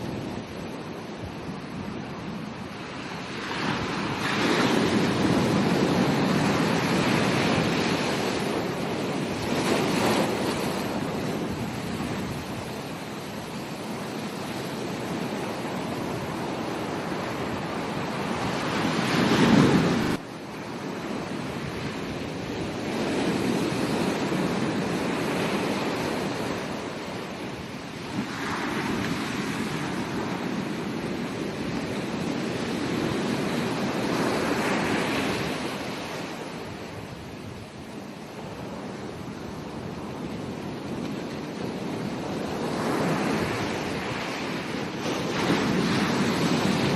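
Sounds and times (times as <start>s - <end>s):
ocean waves breaking on beach: 0.0s - 46.9s.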